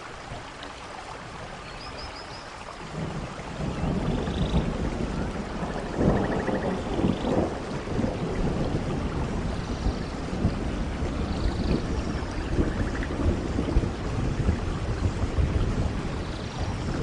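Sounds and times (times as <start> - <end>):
steady rainfall: 0.0 - 17.0
low thunder rumble: 2.9 - 17.0.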